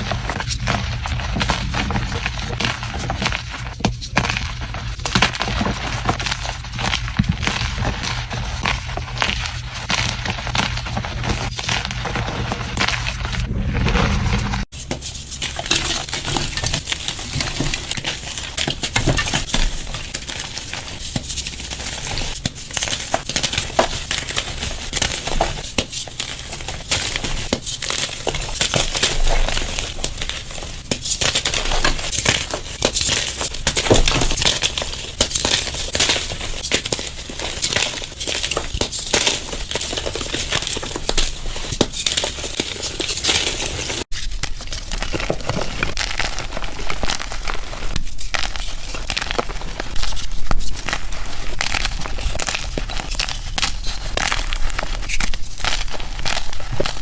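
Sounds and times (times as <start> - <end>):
chalk crunching and crackling: 0.0 - 57.0.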